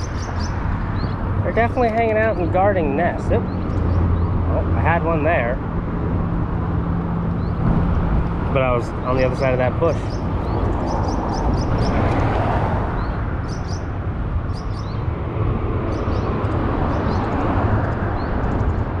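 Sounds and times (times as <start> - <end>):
highway traffic rumble: 0.0 - 19.0.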